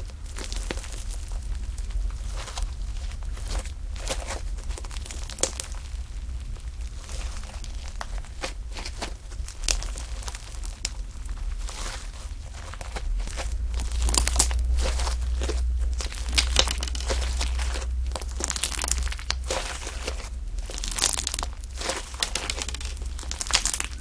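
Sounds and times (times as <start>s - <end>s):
steady low hum: 0.0s - 24.0s
slime crackling and clicking: 0.3s - 5.9s, 7.0s - 24.0s.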